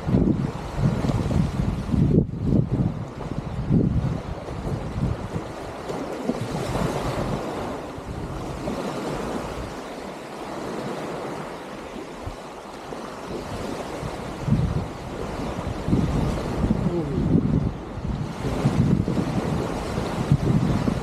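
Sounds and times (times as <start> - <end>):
small waves washing ashore: 0.0 - 21.0
wind buffeting the microphone: 0.0 - 21.0.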